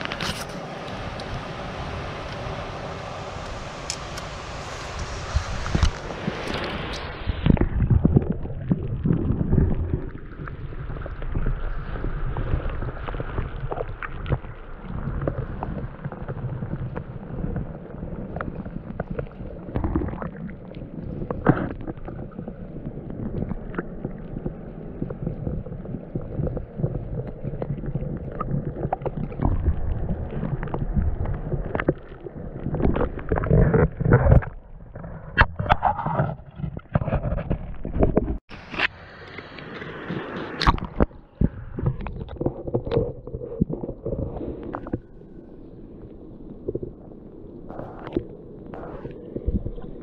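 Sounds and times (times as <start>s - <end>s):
muffled underwater river gurgling: 0.0s - 50.0s
water splashing: 0.0s - 50.0s.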